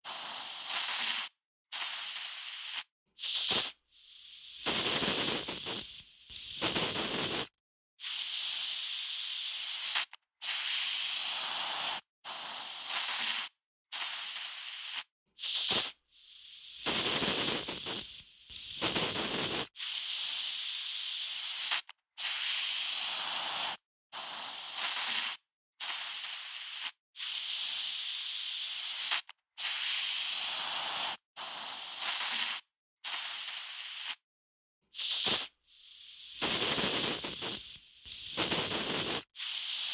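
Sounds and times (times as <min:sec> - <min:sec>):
aerosol spray can spraying: 0:00.1 - 0:34.2, 0:34.9 - 0:39.9.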